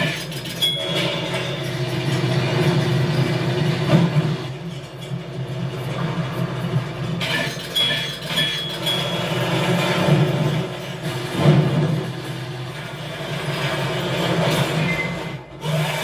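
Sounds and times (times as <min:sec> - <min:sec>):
heavy machinery rumble: 0:00.0 - 0:15.7
rail-like clatter: 0:00.0 - 0:16.0.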